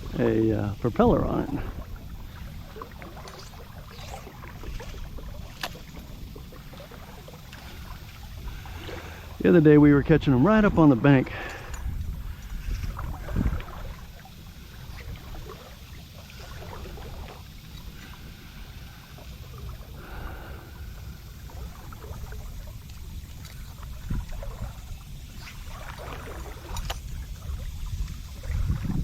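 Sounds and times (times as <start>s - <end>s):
water lapping around kayak: 0.0s - 29.0s
wind rumble on microphone: 0.0s - 29.0s.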